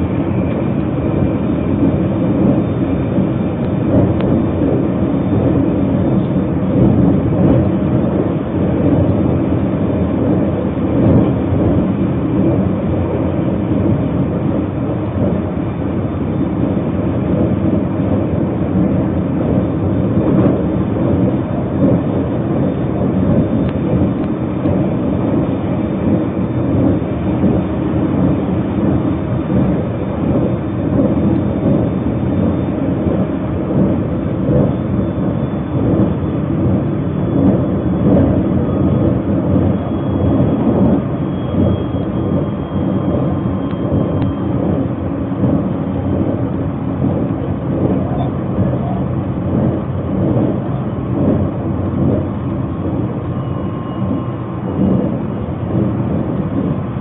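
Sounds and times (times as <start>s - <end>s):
faint high whine: 0.0s - 57.0s
train rumble from inside: 0.0s - 57.0s.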